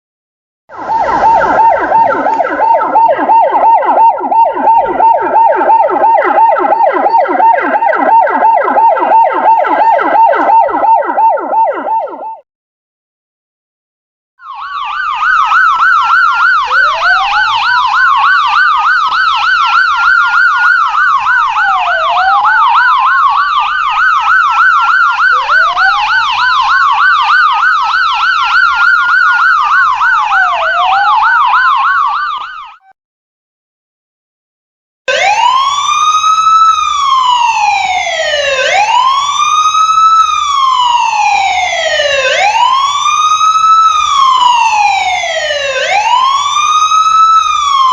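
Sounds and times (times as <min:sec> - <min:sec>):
police siren yelp and wail: 0:00.7 - 0:12.4, 0:14.4 - 0:33.0, 0:35.1 - 0:47.9.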